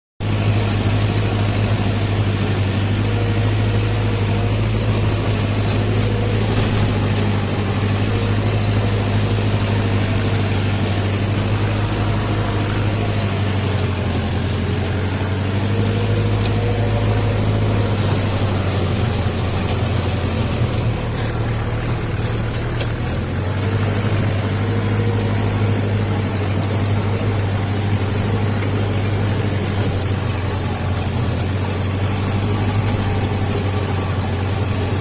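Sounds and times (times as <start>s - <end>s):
tractor diesel engine running: 0.2s - 35.0s.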